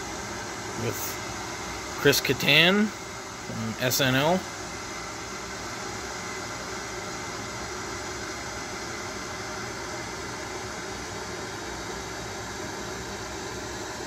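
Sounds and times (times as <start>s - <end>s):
fan hum and hiss: 0.0s - 14.0s.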